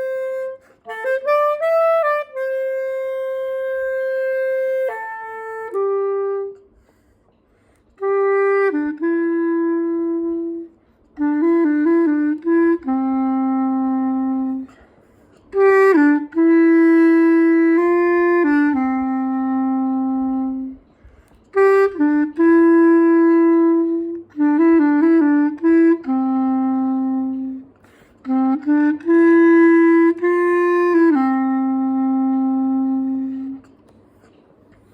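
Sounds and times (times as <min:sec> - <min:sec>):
solo wind instrument melody: 0:00.0 - 0:07.0, 0:08.0 - 0:14.8, 0:15.4 - 0:33.8.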